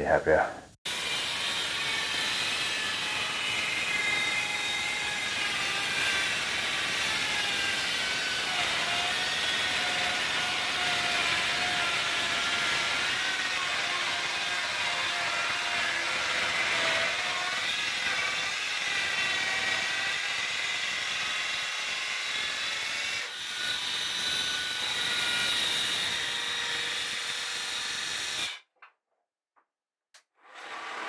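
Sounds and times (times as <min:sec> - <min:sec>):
circular saw cutting plywood: 0:00.9 - 0:28.6, 0:30.3 - 0:31.0.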